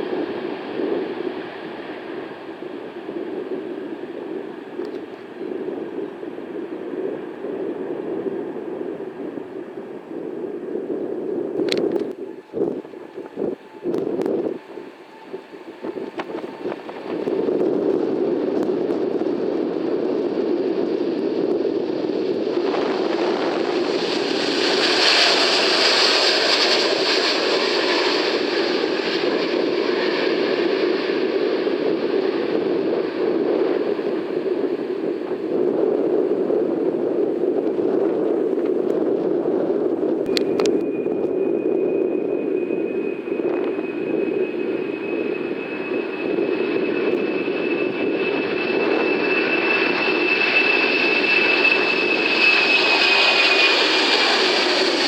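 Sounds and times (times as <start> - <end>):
jet airliner passing: 0.0 - 55.0.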